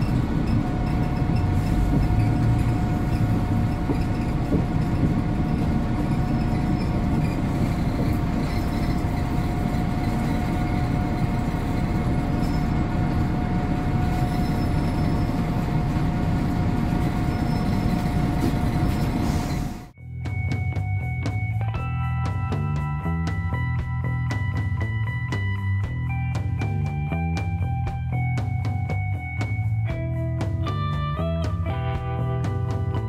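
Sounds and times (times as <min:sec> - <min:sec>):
bus diesel engine running: 0:00.0 - 0:33.0
road and body rumble: 0:00.0 - 0:33.0.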